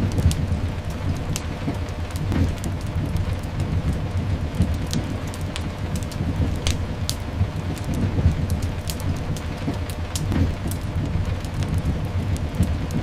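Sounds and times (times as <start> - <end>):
fireplace crackles: 0.0 - 13.0
rain hiss: 0.0 - 13.0.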